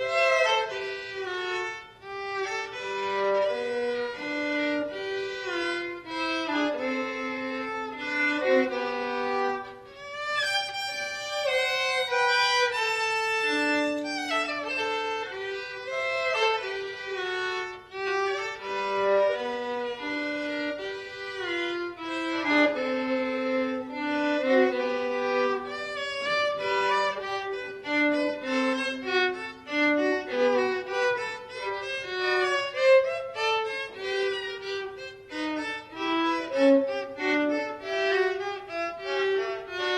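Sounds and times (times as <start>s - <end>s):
violin melody: 0.0s - 39.9s.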